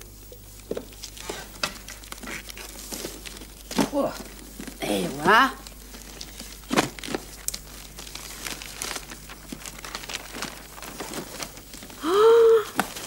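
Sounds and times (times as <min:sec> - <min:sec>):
paper wrapping crinkling: 0:00.5 - 0:13.0.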